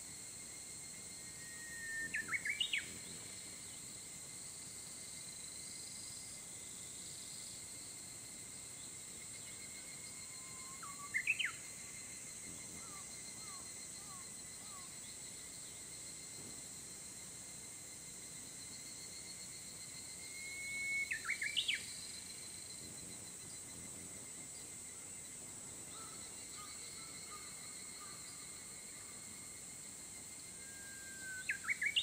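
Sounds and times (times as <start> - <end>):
high-pitched insect hum: 0.0 - 32.0.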